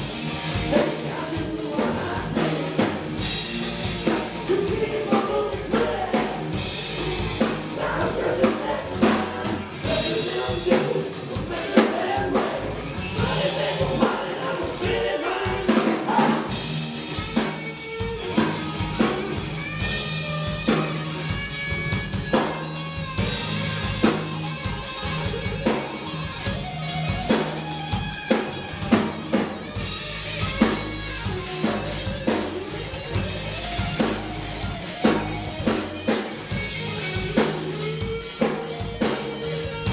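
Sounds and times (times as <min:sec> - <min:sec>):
drum kit: 0:00.0 - 0:39.9
electric guitars: 0:00.0 - 0:39.9.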